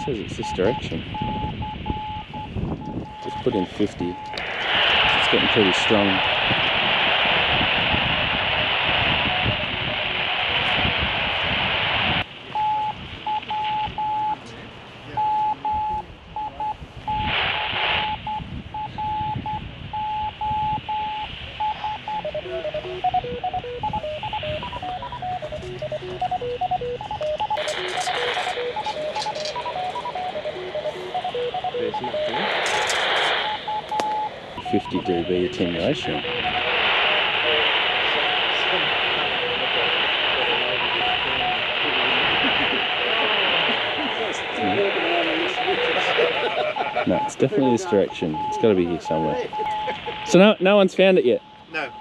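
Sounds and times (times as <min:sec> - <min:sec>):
radio beeps: 0:00.0 - 0:14.5, 0:15.1 - 0:52.0
radio static hiss: 0:00.0 - 0:52.0.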